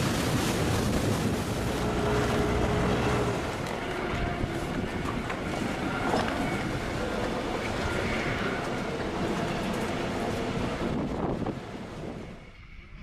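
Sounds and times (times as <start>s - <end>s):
boat engine rumble: 0.0s - 13.0s
water noise at sea: 0.0s - 13.0s
wind: 0.0s - 13.0s.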